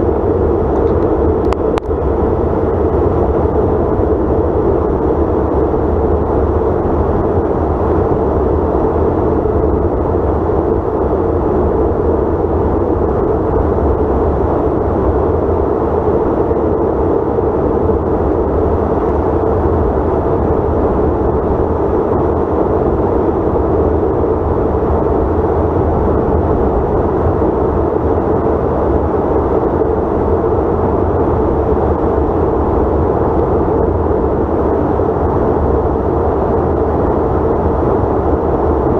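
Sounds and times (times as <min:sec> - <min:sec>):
jet cabin roar: 0:00.0 - 0:38.9.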